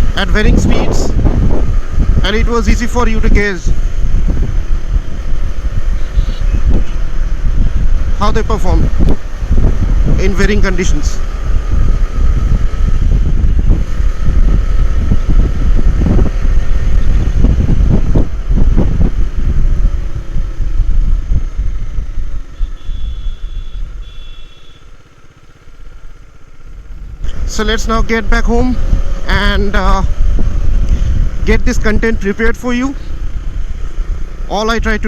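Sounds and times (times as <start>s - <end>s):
motorcycle engine rumble: 0.0s - 35.0s
wind and road noise: 0.0s - 35.0s.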